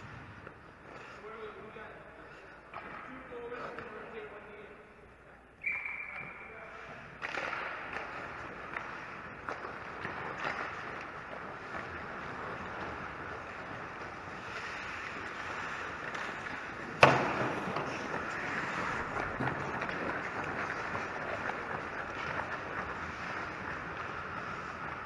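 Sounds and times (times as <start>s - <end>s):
skates scraping ice: 0.0s - 25.0s.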